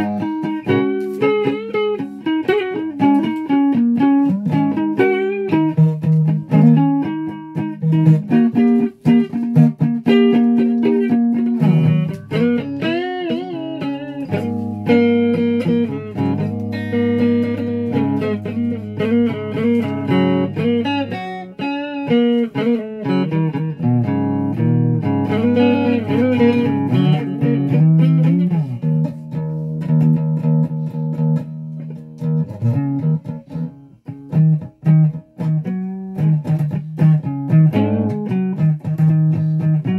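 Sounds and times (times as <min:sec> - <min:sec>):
electric guitar solo: 0:00.0 - 0:39.9.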